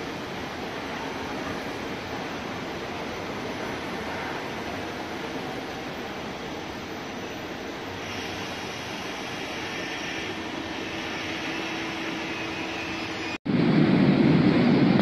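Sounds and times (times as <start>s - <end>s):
deep train rumble: 0.0s - 15.0s
freight train rumbling past: 0.0s - 15.0s.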